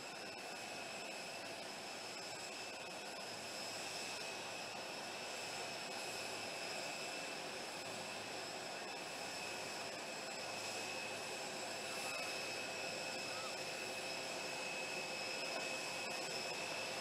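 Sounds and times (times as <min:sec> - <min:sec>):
jet turbine whine: 0:00.0 - 0:17.0.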